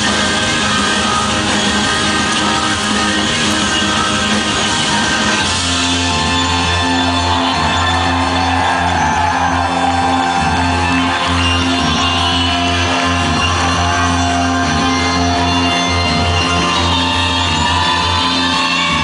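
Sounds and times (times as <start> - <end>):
live electronic rock music: 0.0 - 19.0.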